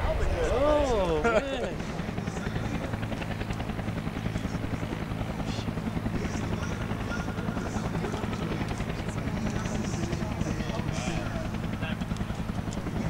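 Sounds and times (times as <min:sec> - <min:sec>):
propeller plane engine running: 0:00.0 - 0:13.0.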